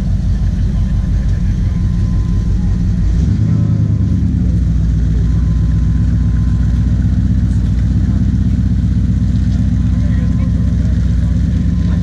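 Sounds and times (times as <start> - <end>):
large vehicle engine idling: 0.0 - 12.0.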